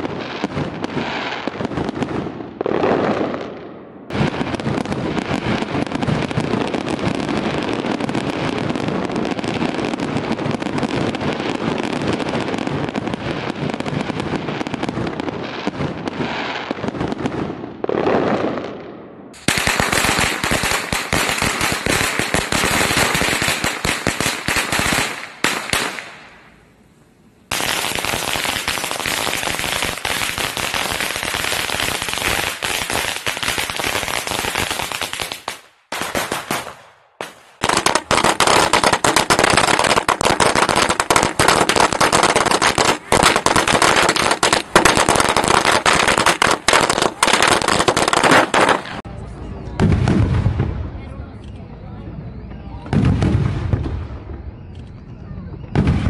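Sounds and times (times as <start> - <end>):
firecrackers going off: 0.0 - 51.3, 52.2 - 56.0
fireworks popping and crackling: 0.0 - 51.5, 52.8 - 56.0.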